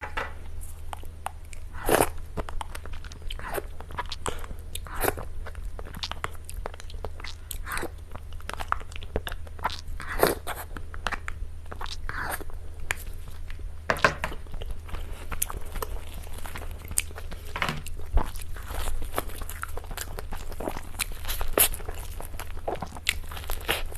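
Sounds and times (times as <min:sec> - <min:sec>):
steady low hum: 0:00.0 - 0:23.9
crunchy bites and chewing: 0:00.9 - 0:23.9.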